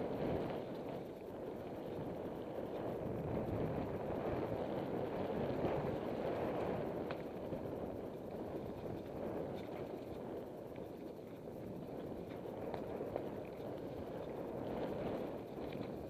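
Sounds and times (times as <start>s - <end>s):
bike tyre rumble: 0.0s - 16.0s
wind on microphone: 0.0s - 16.0s.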